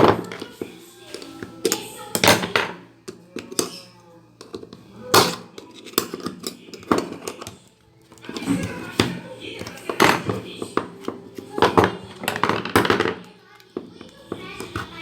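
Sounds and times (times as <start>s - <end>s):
hard objects knocking together: 0.0s - 15.0s.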